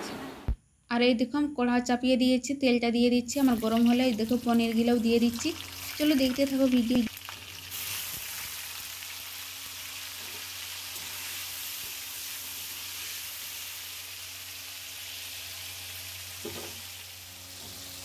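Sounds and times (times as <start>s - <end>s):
cheese frying in hot oil: 3.4s - 18.0s.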